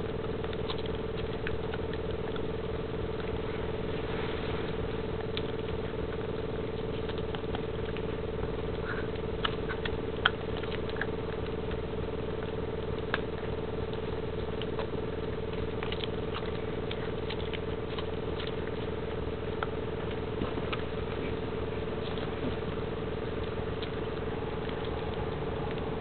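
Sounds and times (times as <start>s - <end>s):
puppy gnawing on chew: 0.0s - 26.0s
steady low hum: 0.0s - 26.0s.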